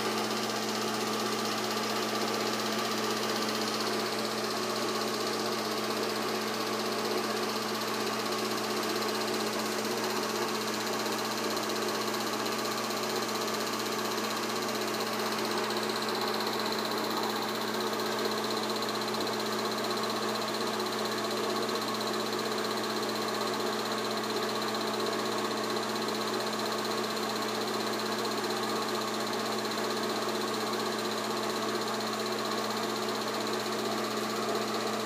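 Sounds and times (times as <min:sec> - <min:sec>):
film projector whirring: 0:00.0 - 0:35.0.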